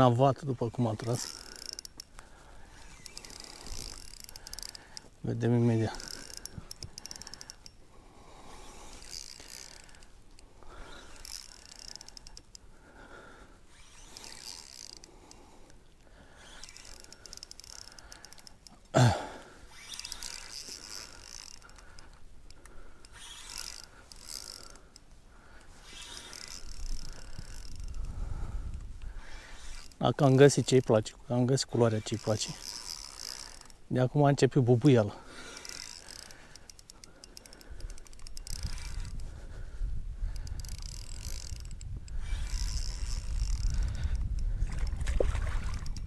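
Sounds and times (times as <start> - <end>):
fishing reel cranking: 0.0 - 46.0.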